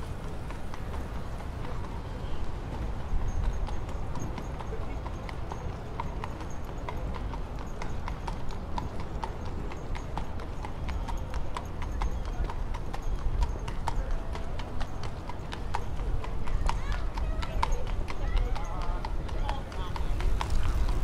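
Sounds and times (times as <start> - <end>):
horse hooves clip-clopping: 0.0 - 21.0.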